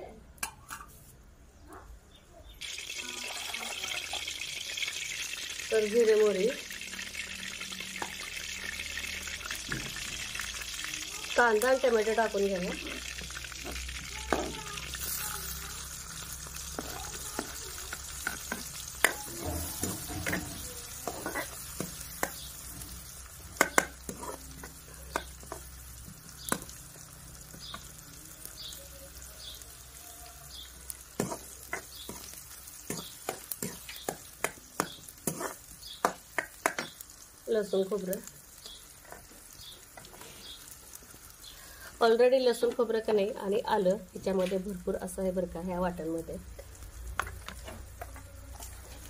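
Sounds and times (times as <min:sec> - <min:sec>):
onion and tomato sizzling in oil: 0:02.5 - 0:49.0.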